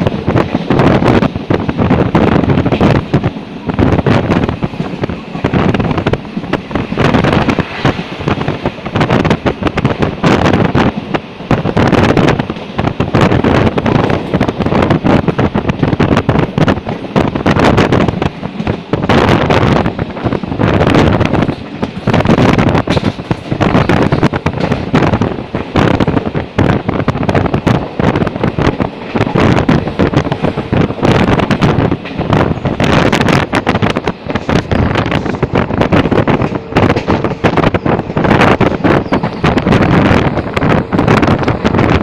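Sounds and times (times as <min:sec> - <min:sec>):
train running noise: 0:00.0 - 0:42.0
wind buffeting microphone: 0:00.0 - 0:42.0.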